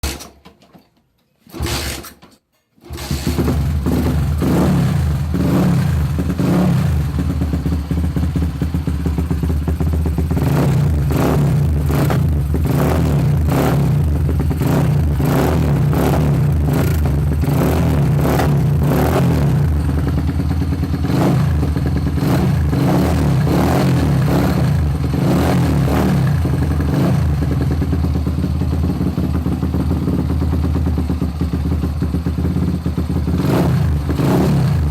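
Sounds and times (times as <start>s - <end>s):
motorcycle engine running: 2.9s - 34.9s.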